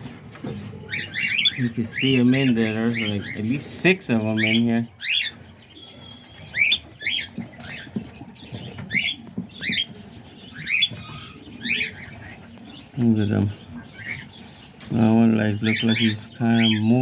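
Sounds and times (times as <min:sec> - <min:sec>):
cockatiel nestlings chirping: 0:00.0 - 0:17.0.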